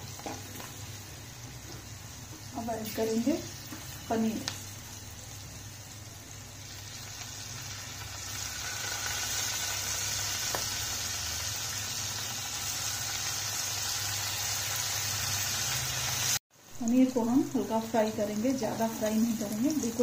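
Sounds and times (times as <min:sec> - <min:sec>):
paneer sizzling in a pan: 0:00.0 - 0:20.0.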